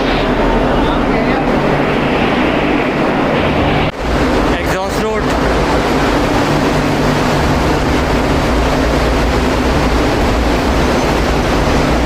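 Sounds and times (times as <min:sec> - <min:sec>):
wide hiss of noise: 0:00.0 - 0:12.0.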